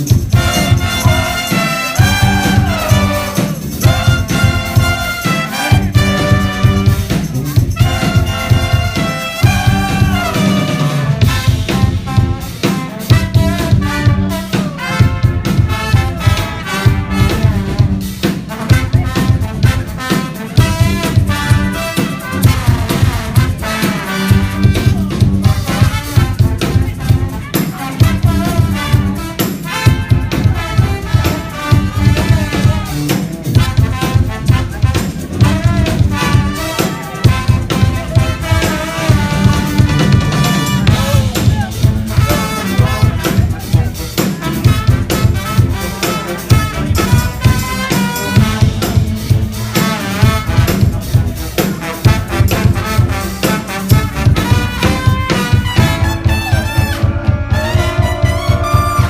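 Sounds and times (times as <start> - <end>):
drums and bass beat: 0.0 - 59.0
trumpets and trombones: 0.0 - 59.0.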